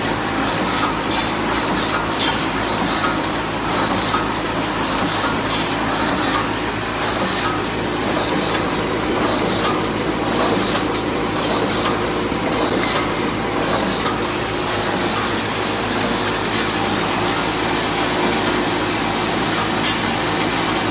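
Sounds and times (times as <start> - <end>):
welding machine clatter: 0.0 - 20.9.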